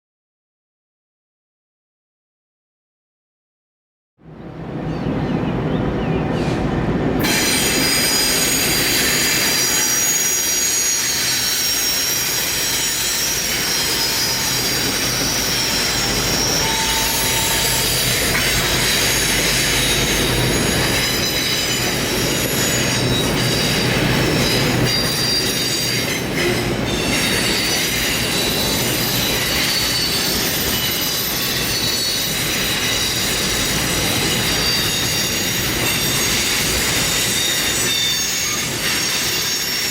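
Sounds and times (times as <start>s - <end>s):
rumble of train cars: 4.2s - 39.9s
train wheels squealing on rails: 6.1s - 39.9s.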